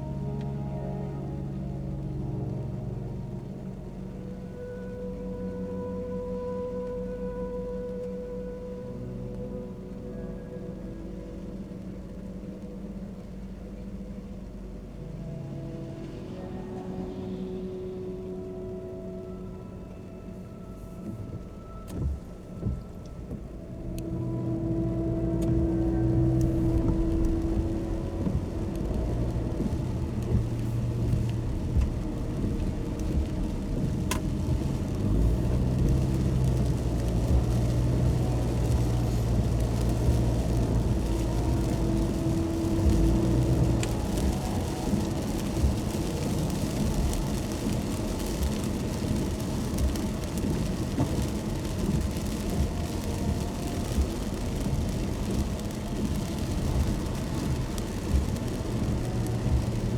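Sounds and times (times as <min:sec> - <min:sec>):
car engine and road noise: 0:00.0 - 0:59.9
rain and wet tyres hissing: 0:00.0 - 0:59.9.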